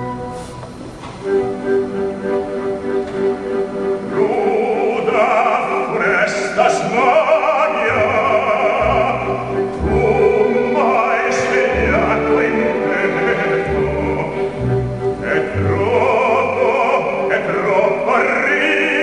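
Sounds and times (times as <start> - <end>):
orchestra: 0.0 - 19.0
operatic baritone singing: 3.6 - 19.0.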